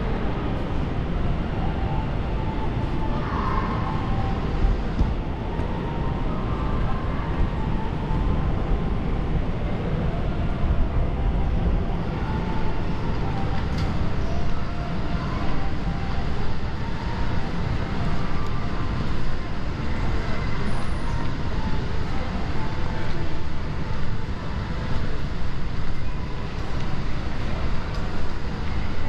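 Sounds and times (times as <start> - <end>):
low rumbling background noise: 0.0 - 29.0.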